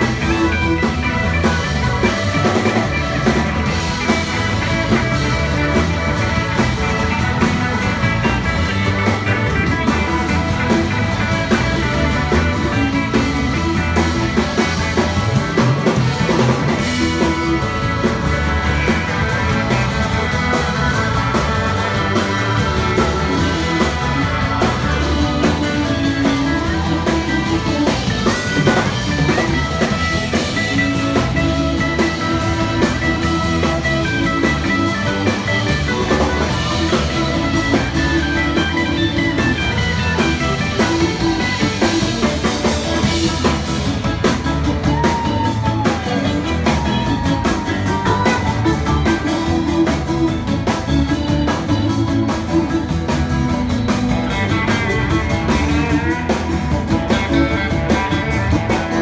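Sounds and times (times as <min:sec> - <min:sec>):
drum kit: 0:00.0 - 0:59.0
electric guitar: 0:00.0 - 0:59.0
keyboard: 0:00.0 - 0:59.0.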